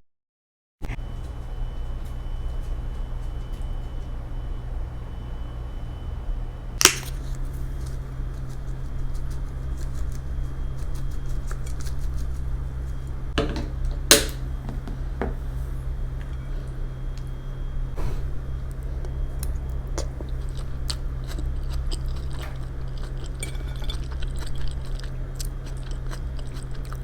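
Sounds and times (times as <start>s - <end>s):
steady low hum: 0.8s - 27.0s.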